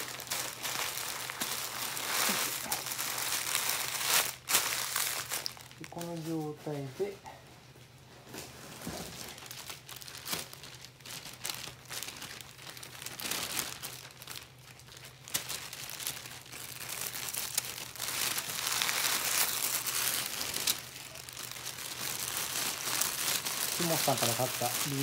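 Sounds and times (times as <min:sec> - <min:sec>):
kitchen paper crinkling: 0:00.0 - 0:07.4, 0:08.3 - 0:25.0.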